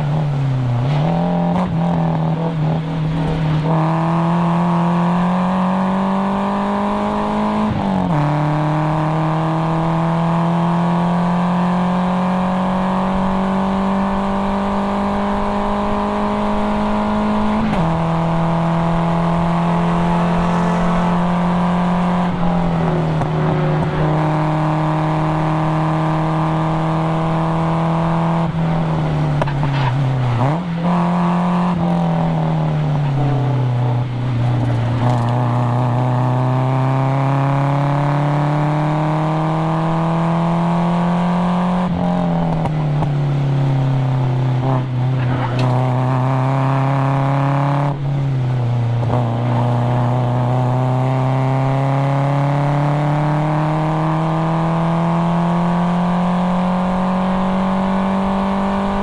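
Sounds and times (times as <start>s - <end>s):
car engine pulling hard: 0.0s - 59.0s.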